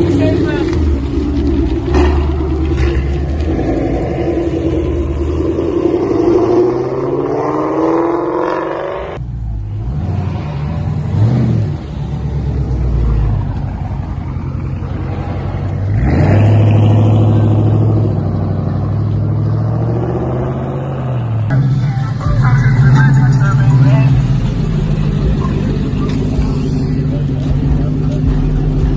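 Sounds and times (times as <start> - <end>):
low engine rumble: 0.0 - 6.3, 9.2 - 19.7, 21.2 - 28.9
car engine accelerating: 0.0 - 28.9
engine droning: 0.0 - 28.9.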